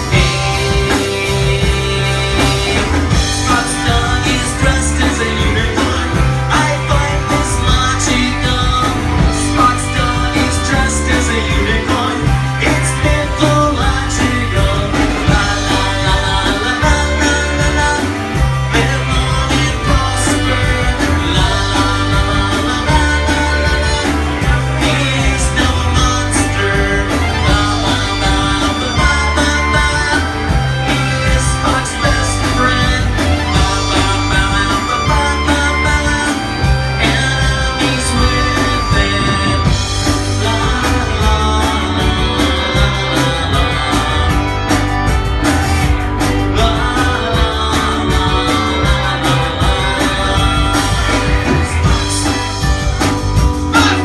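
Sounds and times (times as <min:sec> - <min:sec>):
electric guitars: 0:00.0 - 0:54.0
keyboard: 0:00.0 - 0:54.0
person singing: 0:00.0 - 0:54.0
repeating bass line: 0:00.0 - 0:54.0
steady drum beat: 0:00.0 - 0:54.0.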